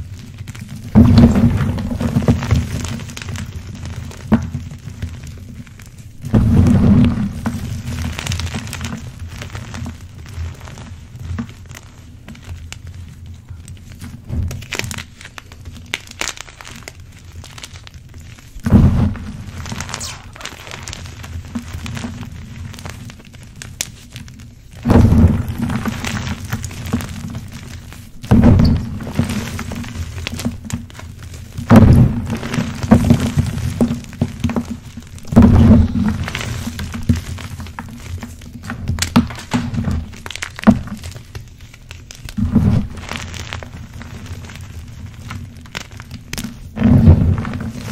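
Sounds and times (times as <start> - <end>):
chalk blocks crunching: 0.2 - 47.9.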